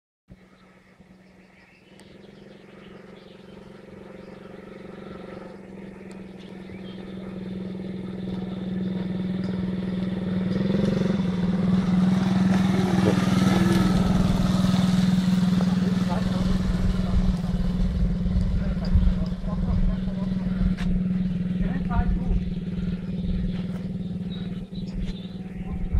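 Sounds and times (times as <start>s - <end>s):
small quad bike engine running: 0.3s - 25.9s.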